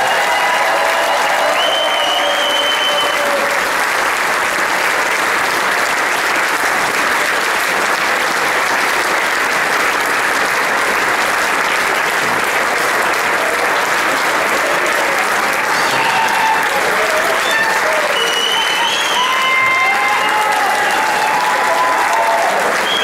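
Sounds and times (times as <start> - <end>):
large crowd applauding: 0.0 - 23.0.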